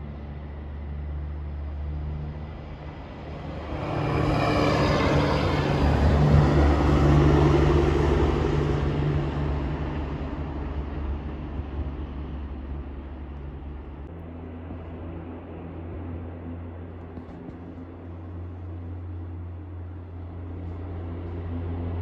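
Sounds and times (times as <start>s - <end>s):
steady low hum: 0.0s - 22.0s
truck passing: 0.0s - 22.0s.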